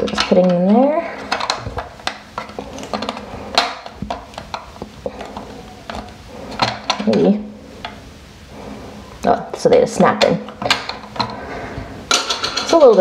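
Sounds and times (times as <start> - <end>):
plastic discs clicking and tapping: 0.0 - 8.0, 10.2 - 13.0.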